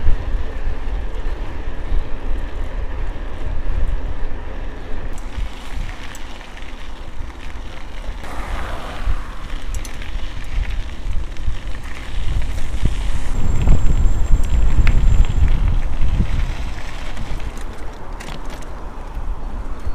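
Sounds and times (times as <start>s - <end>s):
wind buffeting microphone: 0.0s - 18.3s
bike clicks and rattles: 0.0s - 19.9s
tyre noise on path: 0.0s - 19.9s.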